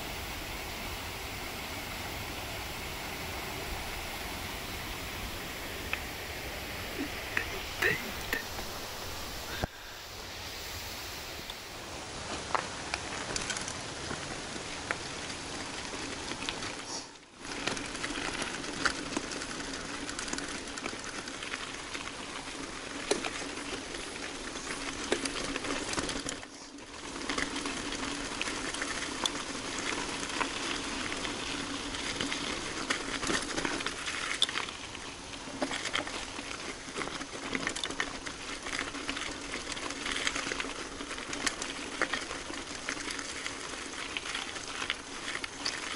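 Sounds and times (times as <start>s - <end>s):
bike tyre noise on trail: 0.0s - 45.9s
gravel and bike rattling: 0.0s - 45.9s.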